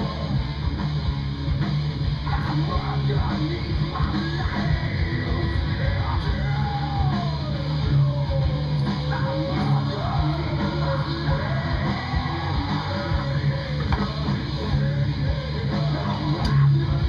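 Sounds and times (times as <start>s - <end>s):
rock music with electric guitar: 0.0s - 17.0s
person singing: 2.3s - 17.0s.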